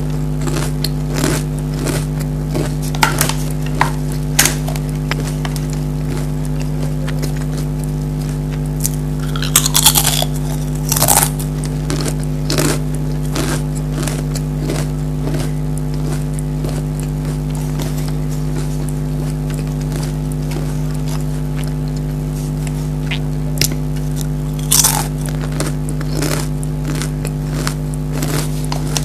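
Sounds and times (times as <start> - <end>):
potato crisps crunching: 0.0 - 29.0
steady low hum: 0.0 - 29.0.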